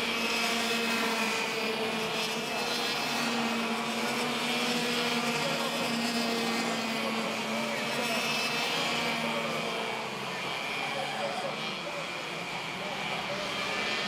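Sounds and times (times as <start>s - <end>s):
kart engines buzzing: 0.0s - 14.0s.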